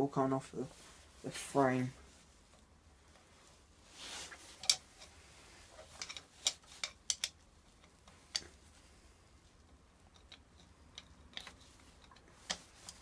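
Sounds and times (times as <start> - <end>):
soft rustle: 0.1 - 13.0.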